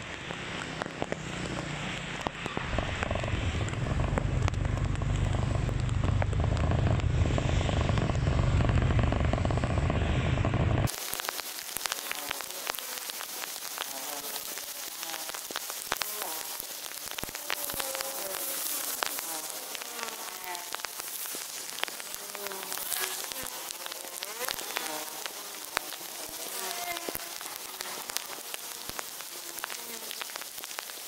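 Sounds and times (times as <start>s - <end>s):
heavy rain on wet road: 0.0s - 31.0s.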